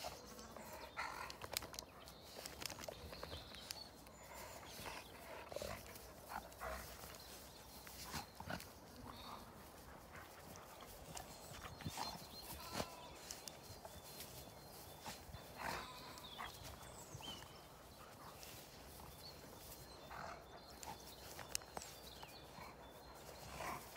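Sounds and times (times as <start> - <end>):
dogs scuffling on grass: 0.0 - 23.9
dogs vocalizing: 0.0 - 23.9.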